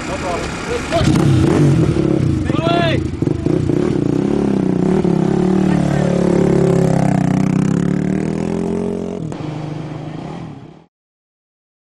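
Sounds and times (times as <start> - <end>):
race vehicle engine running: 0.0 - 10.9.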